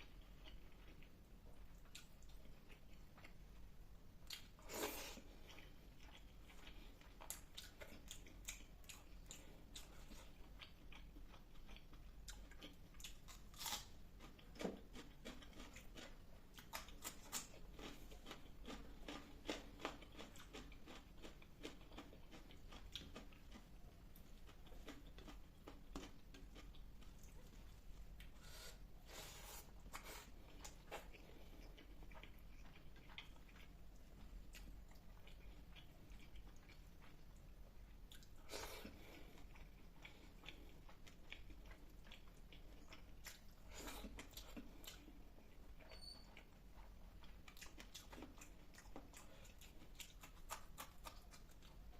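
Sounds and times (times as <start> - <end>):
person chewing and crunching: 0.0 - 3.6, 4.2 - 51.9.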